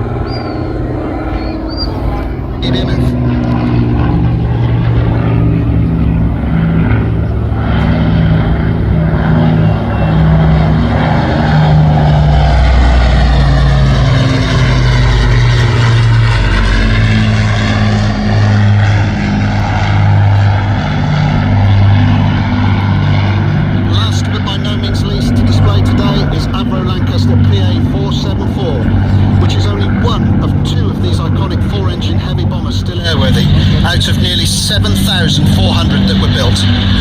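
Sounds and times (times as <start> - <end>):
propeller aircraft engines droning: 0.0 - 37.0.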